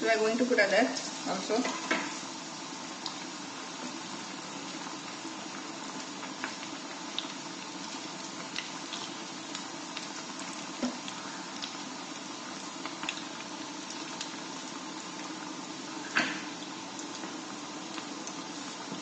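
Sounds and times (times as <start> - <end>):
deep-frying sizzle and pops: 0.0 - 19.0.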